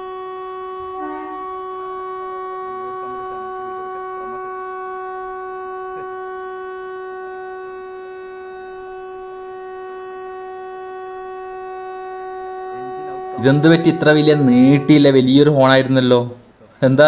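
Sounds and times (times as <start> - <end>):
train horn blast: 0.0 - 16.4.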